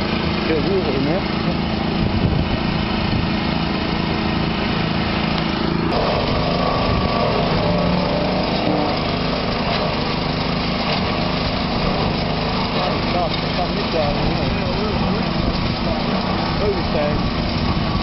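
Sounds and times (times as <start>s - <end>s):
wood chipper engine running: 0.0s - 18.0s.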